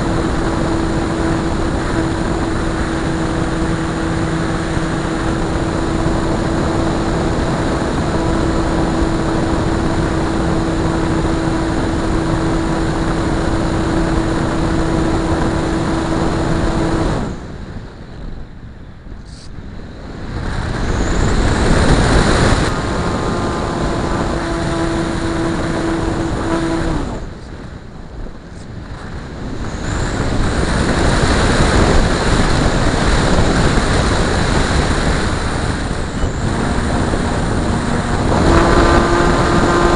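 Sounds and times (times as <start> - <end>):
model plane motor and propeller drone: 0.0 - 39.9.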